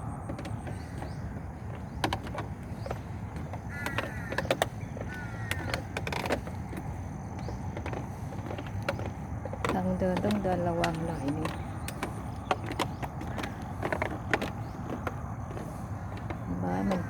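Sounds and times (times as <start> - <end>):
bird calls: 0.0 - 17.0
wind rumble on microphone: 0.0 - 17.0
sharp clicks and knocks: 0.2 - 17.0.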